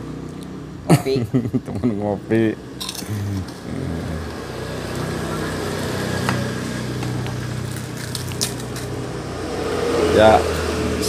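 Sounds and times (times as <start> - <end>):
vehicle engine running: 1.8 - 11.0.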